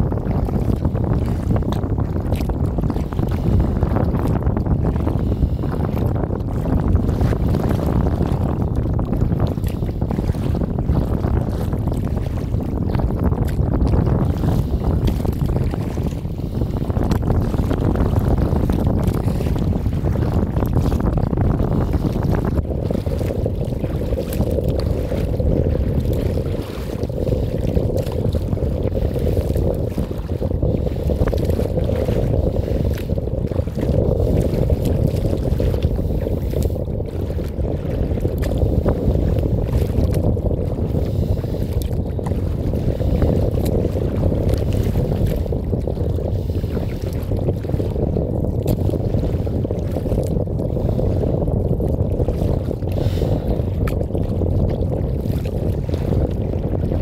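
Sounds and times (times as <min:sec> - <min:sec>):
water slapping against kayak hull: 0:00.0 - 0:57.0
wind buffeting microphone: 0:00.0 - 0:57.0.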